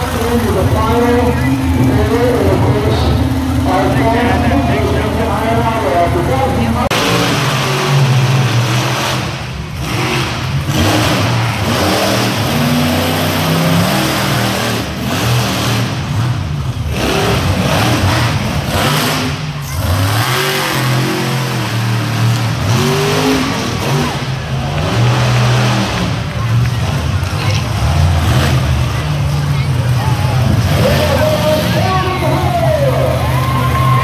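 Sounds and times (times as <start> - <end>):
truck engines revving hard: 0.0 - 34.0.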